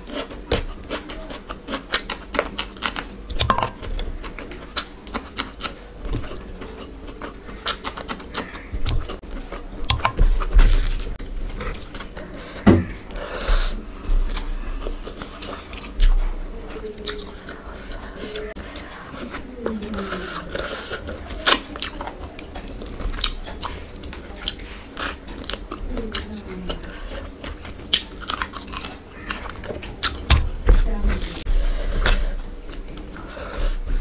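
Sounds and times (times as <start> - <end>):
chewing and lip-smacking: 0.0 - 30.4.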